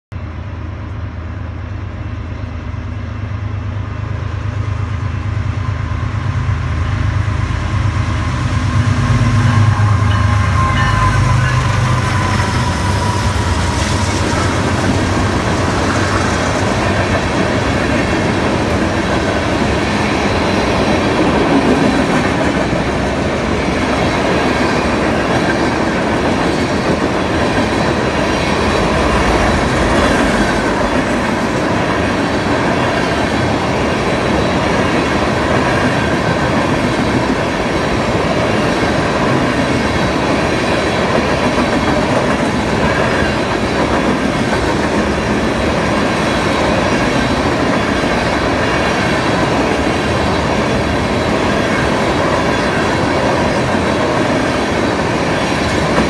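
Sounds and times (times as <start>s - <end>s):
diesel locomotive rumble: 0.1s - 56.0s.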